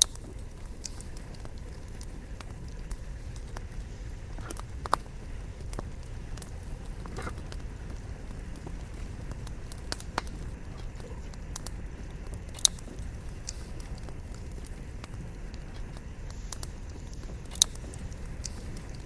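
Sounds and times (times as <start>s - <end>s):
campfire crackling and popping: 0.0s - 19.0s
low steady rumble: 0.0s - 19.0s.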